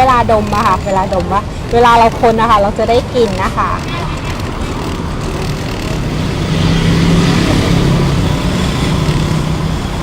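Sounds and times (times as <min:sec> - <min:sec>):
background noise: 0:00.0 - 0:10.0
vehicle engine humming: 0:00.0 - 0:10.0.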